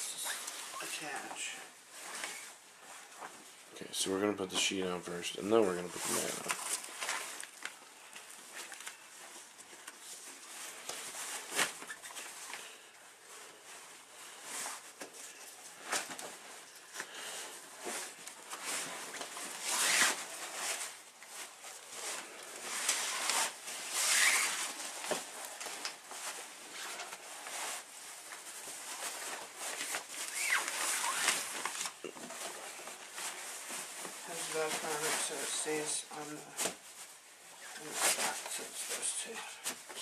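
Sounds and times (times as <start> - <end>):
fabric rustling and swishing: 5.6 - 40.0.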